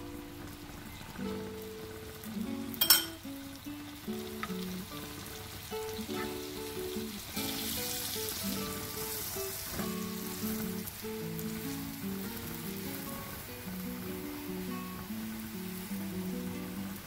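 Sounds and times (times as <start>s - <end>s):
butter sizzling in a pan: 0.0s - 17.0s.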